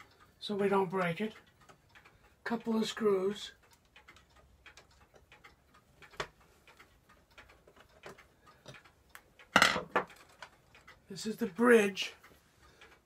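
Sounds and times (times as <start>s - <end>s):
clocks ticking: 0.0s - 13.0s.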